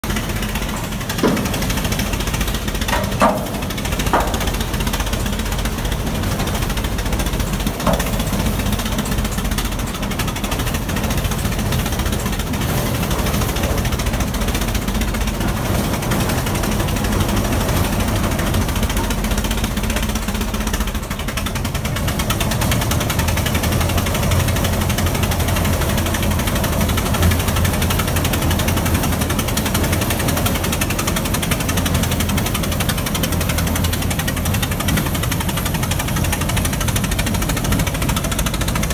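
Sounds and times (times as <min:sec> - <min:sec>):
tractor engine chuffing: 0:00.0 - 0:38.9.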